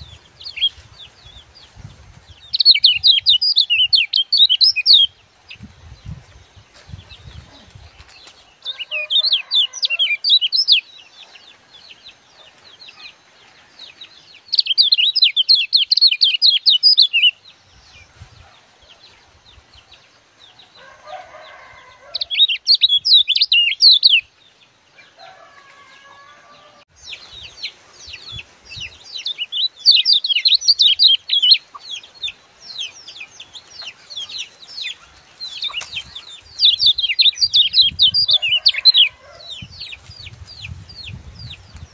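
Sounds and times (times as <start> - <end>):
songbird chirping trills: 0.0 - 41.9.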